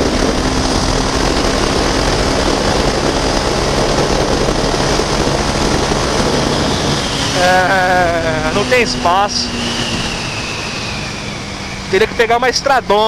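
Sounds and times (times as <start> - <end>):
motorcycle engine at high revs: 0.0 - 13.0
wind rush on microphone: 0.0 - 13.0.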